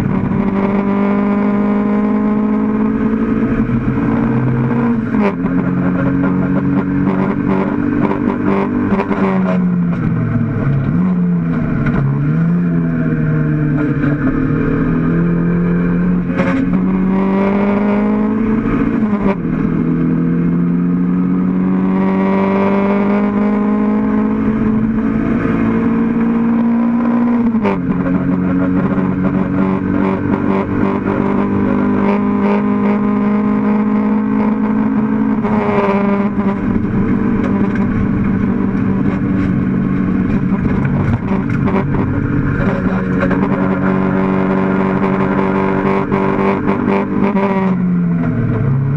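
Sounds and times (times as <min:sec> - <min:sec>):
race car engine pulling hard: 0:00.0 - 0:48.9.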